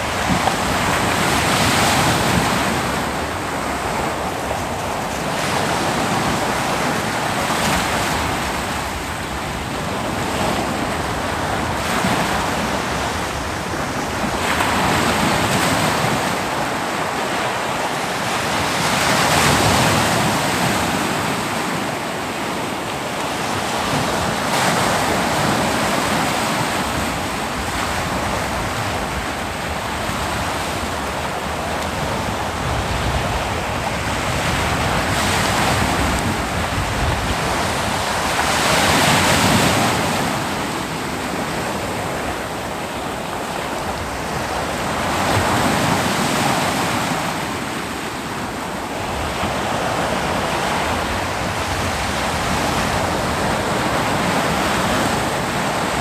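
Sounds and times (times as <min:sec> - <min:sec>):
ocean waves breaking on beach: 0:00.0 - 0:56.0
wind on microphone: 0:00.0 - 0:56.0.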